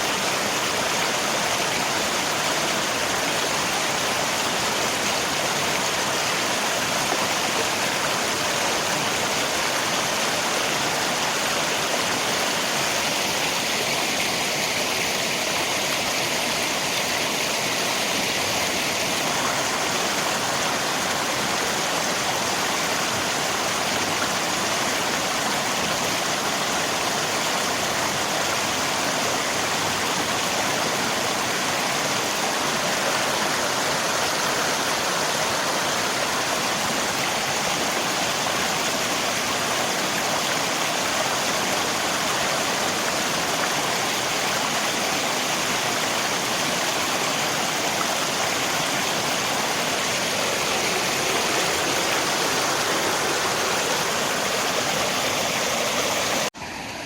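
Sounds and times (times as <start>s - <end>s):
rain: 0.0s - 57.0s
river water rushing: 0.0s - 57.0s.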